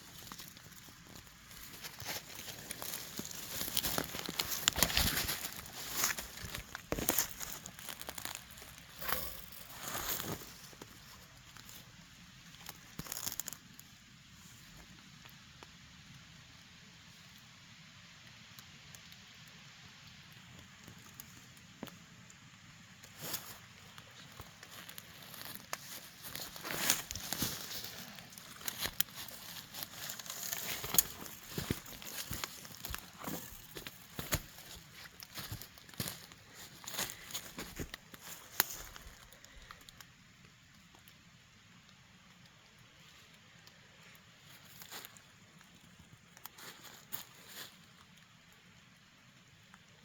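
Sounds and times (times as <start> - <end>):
rustling of dry leaves and twigs: 0.0 - 50.0.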